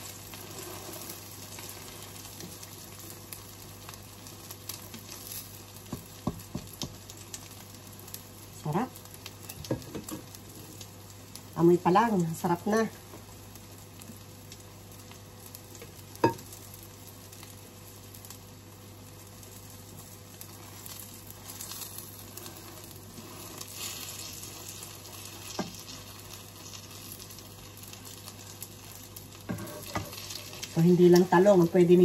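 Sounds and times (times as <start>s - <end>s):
omelette frying in hot oil: 0.0s - 32.0s.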